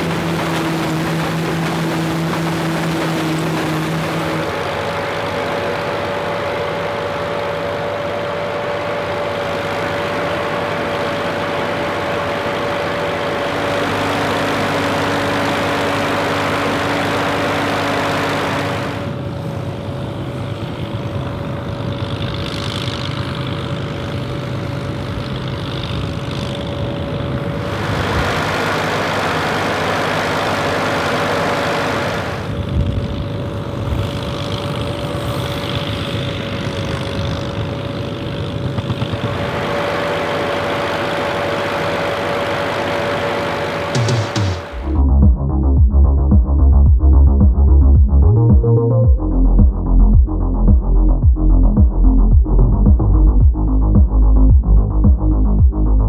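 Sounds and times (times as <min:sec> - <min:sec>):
combine harvester clatter: 0:00.0 - 0:44.9
constant high whine: 0:00.0 - 0:56.0
tractor engine drone: 0:00.0 - 0:56.0.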